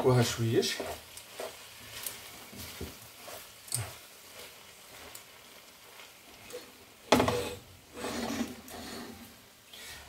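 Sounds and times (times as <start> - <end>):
faint sizzle: 0.0 - 10.0
wooden spoon stirring in pan: 0.0 - 10.0.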